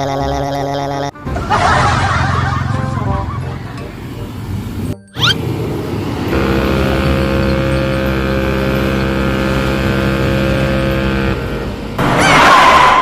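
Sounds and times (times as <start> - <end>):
large vehicle engine running: 1.3 - 12.1.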